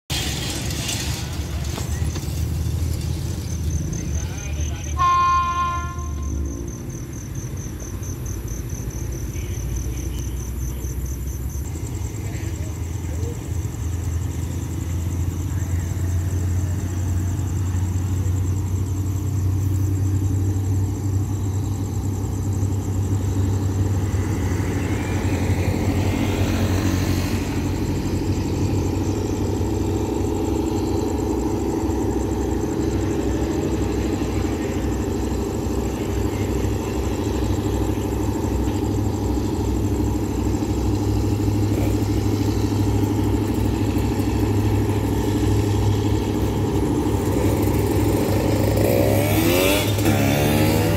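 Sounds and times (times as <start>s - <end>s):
diesel locomotive engine hum: 0.1s - 50.9s
road vehicle passing: 0.1s - 50.9s.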